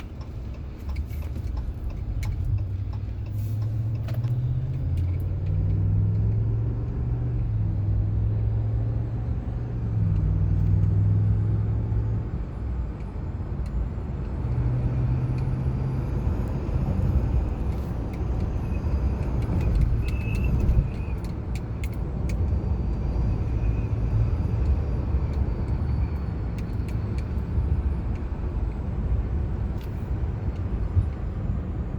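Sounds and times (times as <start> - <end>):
low engine hum: 0.0 - 31.9
wind and road noise in cab: 0.0 - 31.9.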